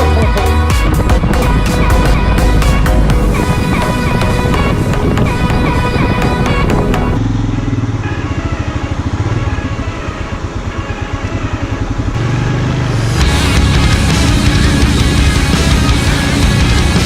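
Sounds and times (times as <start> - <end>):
music: 0.0 - 7.2, 8.0 - 17.0
motorcycle engine running: 0.1 - 17.0.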